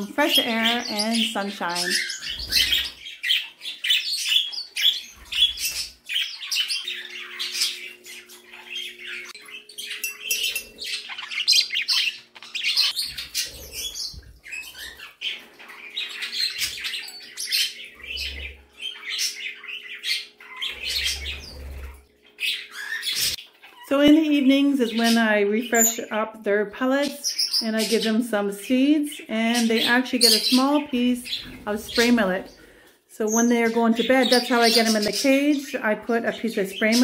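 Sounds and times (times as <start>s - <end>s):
budgerigars chattering and chirping: 0.0s - 26.2s, 26.8s - 28.2s, 28.8s - 37.0s
faint steady hum: 0.0s - 37.0s.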